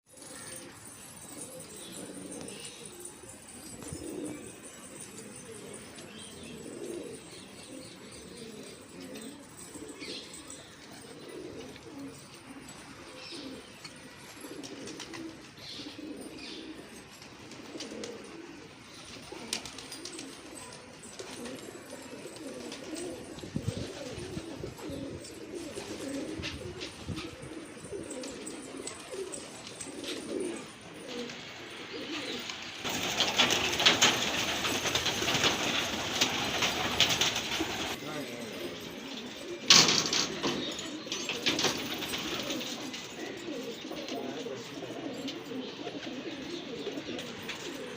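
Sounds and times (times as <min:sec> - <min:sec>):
pigeons cooing: 0:00.1 - 0:47.9.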